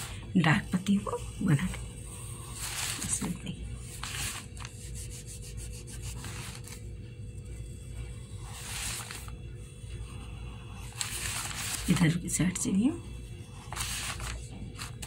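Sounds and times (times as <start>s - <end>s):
pencil scratching on paper: 0.0s - 15.0s
steady low hum: 0.0s - 15.0s.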